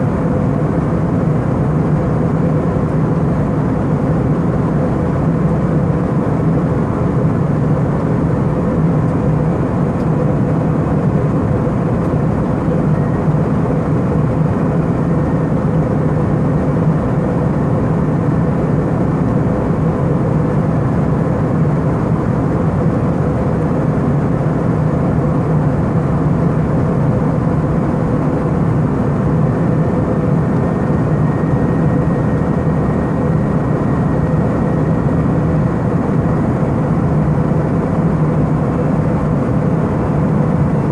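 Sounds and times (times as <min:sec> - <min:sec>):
aircraft cabin engine roar: 0:00.0 - 0:40.9.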